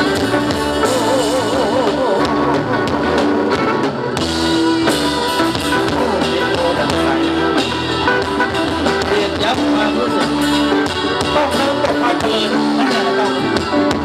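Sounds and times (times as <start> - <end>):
wavering melody line: 0.0 - 13.7
bass: 0.0 - 14.0
drum kit: 0.0 - 14.0
live band playing pop: 0.0 - 14.0.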